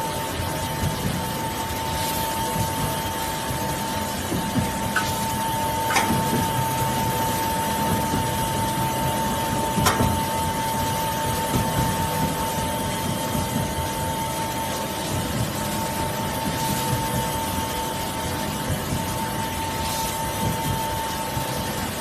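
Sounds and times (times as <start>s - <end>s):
foam-cutting machine whine: 0.0s - 22.0s.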